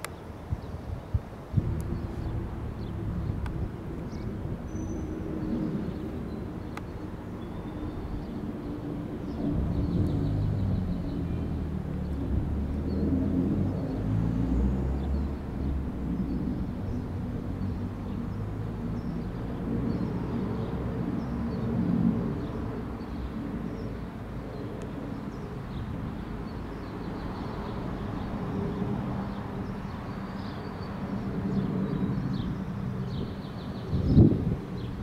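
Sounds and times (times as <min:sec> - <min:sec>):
jet aircraft rumbling overhead: 0:00.0 - 0:35.0.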